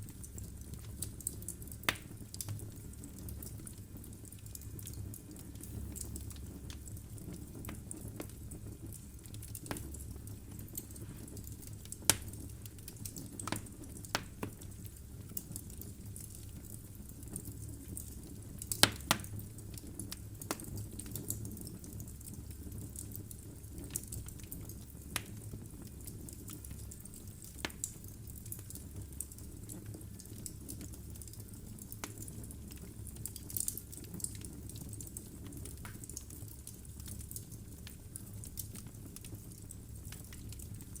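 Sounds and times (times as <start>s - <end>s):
fire flame rumbling: 0.0s - 41.0s
logs crackling and popping: 0.0s - 41.0s.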